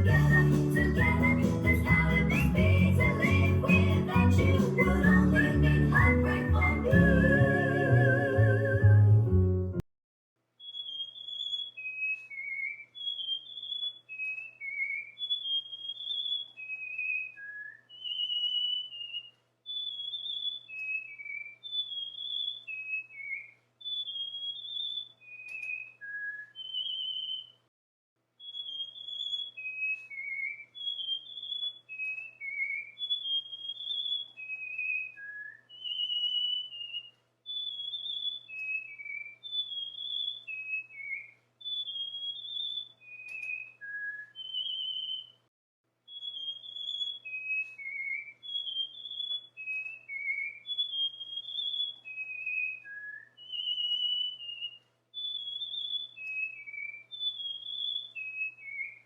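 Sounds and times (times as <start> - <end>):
cockatiel whistling: 0.0 - 8.9, 10.6 - 27.6, 28.4 - 45.4, 46.1 - 59.0.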